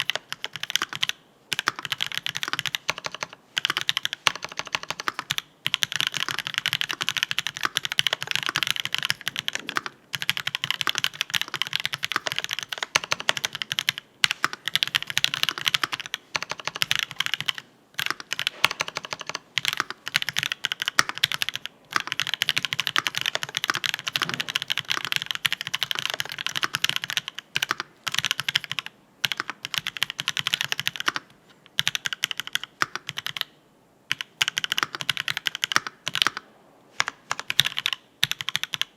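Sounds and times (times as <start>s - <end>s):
mechanical keyboard typing: 0.0s - 36.4s, 37.0s - 38.9s.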